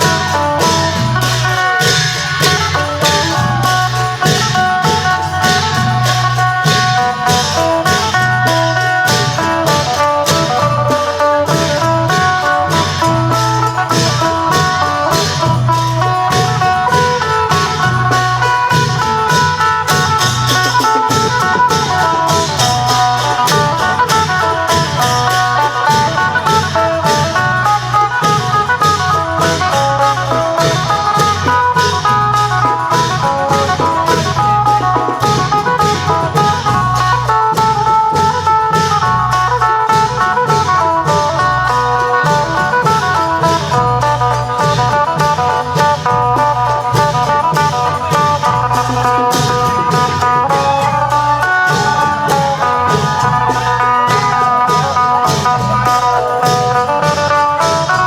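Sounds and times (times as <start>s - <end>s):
long drums steady beat: 0.0s - 58.0s
plucked lute fast melody: 0.0s - 58.0s.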